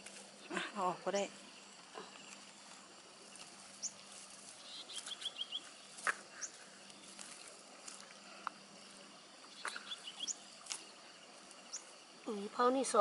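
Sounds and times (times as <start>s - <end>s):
faint birdsong chirps: 0.3s - 13.0s.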